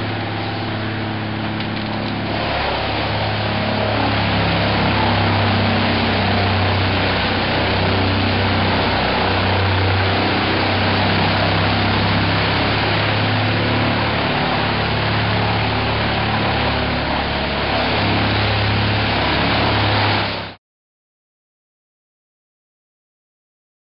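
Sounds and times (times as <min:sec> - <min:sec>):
wood chipper running: 0:00.0 - 0:20.6.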